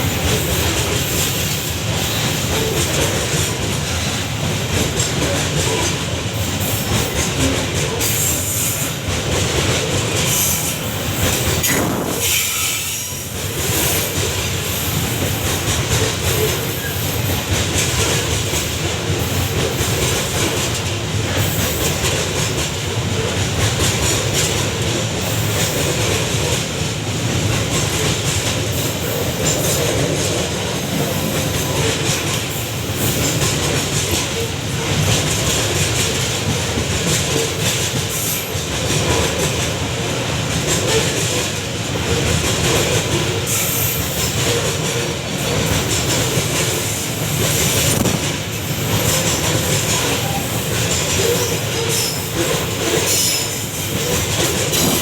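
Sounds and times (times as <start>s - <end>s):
train wagons rumbling past: 0.0s - 55.0s
wheels clacking over rail joints: 0.0s - 55.0s.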